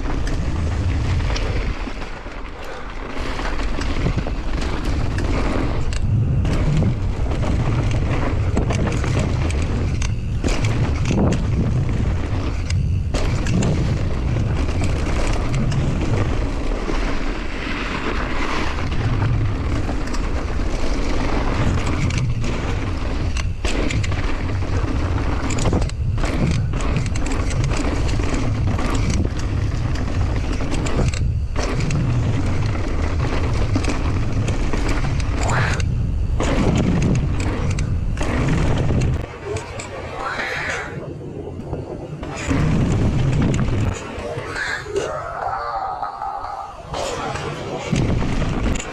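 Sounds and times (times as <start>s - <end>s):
tyres rolling on dirt: 0.0s - 41.0s, 42.1s - 48.9s
wind buffeting microphone: 3.6s - 44.9s.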